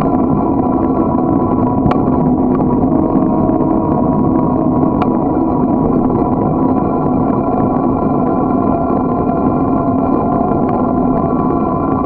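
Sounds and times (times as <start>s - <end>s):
continuous hum: 0.0s - 12.0s
wind over microphone: 0.0s - 12.0s.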